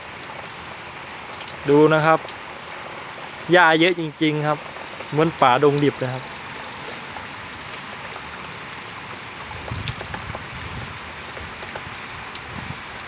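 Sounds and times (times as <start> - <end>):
rain hissing: 0.0 - 13.0
raindrops ticking close by: 0.0 - 13.0.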